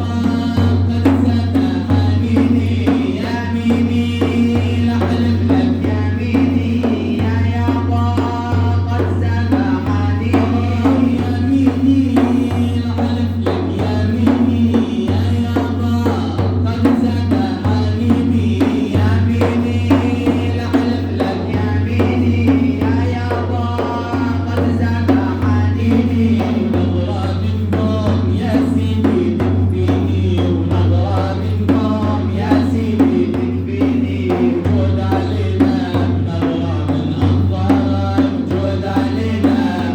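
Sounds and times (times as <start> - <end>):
hand drum beat: 0.0 - 39.9
men singing religious praise song: 0.0 - 39.9.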